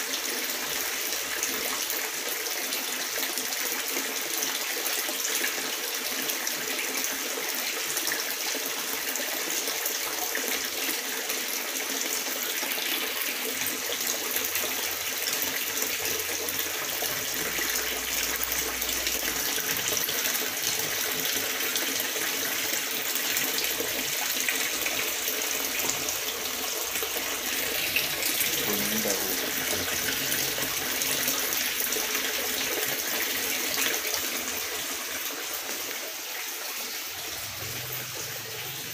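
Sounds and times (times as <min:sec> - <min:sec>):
water pouring into a pond: 0:00.0 - 0:38.9.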